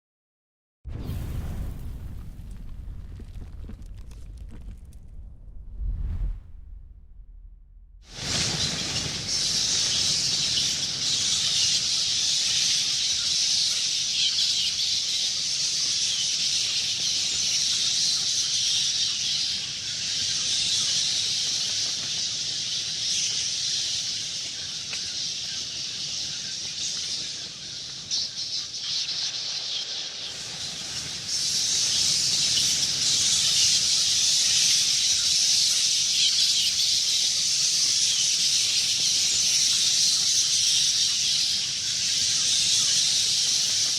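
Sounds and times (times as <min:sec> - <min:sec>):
bats chittering: 0:08.1 - 0:43.9.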